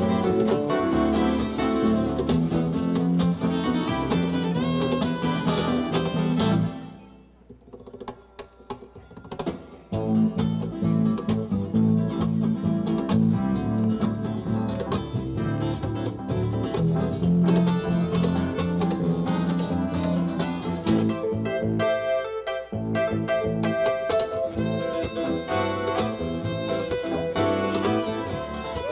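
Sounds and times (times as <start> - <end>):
live band playing: 0.0 - 7.4, 8.0 - 28.9
guitar: 0.0 - 28.9.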